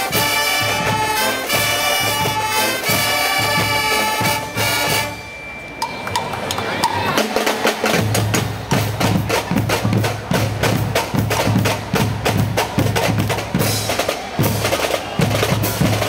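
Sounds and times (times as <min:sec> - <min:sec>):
snare drum strokes: 0:00.0 - 0:16.0.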